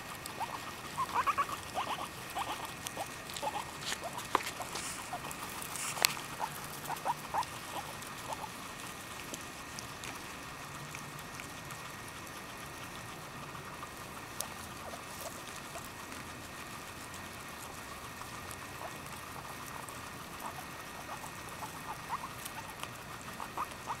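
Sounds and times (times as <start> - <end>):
guinea pigs squeaking: 0.0 - 10.4, 11.1 - 24.0
grass being torn and chewed: 0.1 - 24.0.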